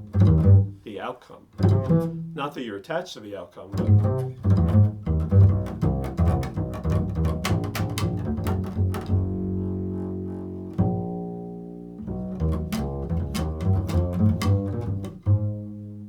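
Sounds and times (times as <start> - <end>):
low plucked stringed instrument: 0.0 - 0.8, 1.6 - 2.5, 3.7 - 16.0.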